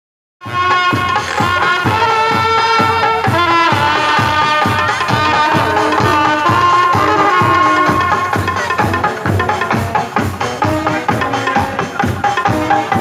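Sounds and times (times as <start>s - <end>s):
steady drum beat: 0.4s - 13.0s
wavering melody: 0.5s - 13.0s.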